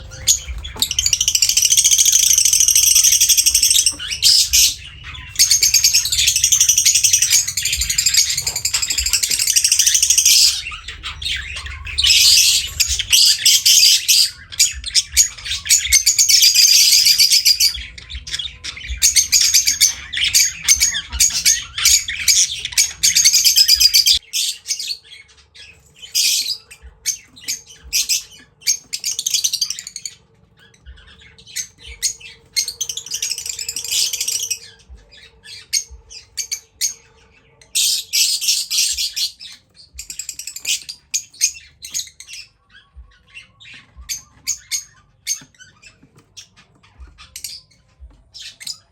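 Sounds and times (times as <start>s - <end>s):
lovebirds chirping and squawking: 0.0s - 48.9s.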